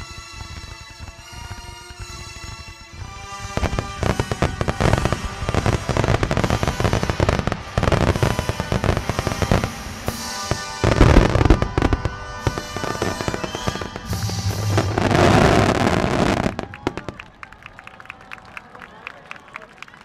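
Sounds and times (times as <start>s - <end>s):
music: 0.0s - 17.0s
fireworks bursting and crackling: 0.0s - 17.8s.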